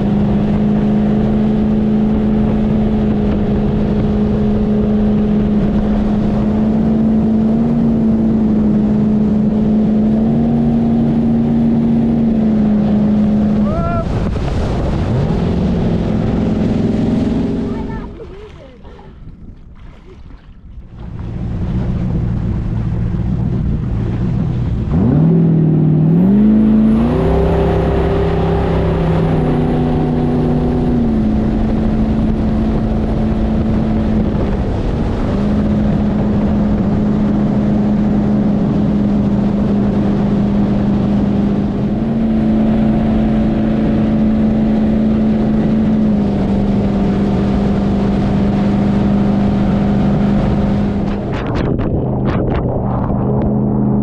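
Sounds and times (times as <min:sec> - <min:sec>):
boat engine revving: 0:00.0 - 0:54.0.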